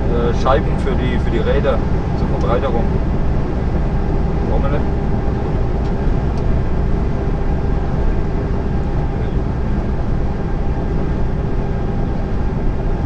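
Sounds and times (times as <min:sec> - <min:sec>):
lorry diesel engine droning: 0:00.0 - 0:13.0
road noise: 0:00.0 - 0:13.0.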